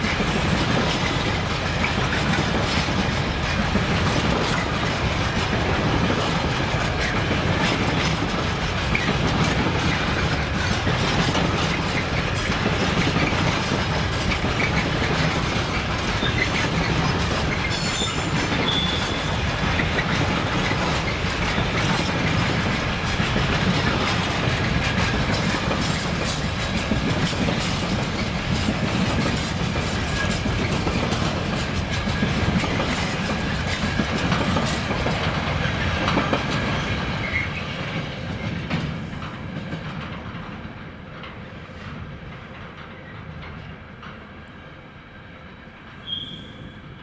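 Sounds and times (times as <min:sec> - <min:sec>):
wheels clicking over rail joints: 0:00.0 - 0:44.4
train wheels rumbling on rails: 0:00.0 - 0:47.0.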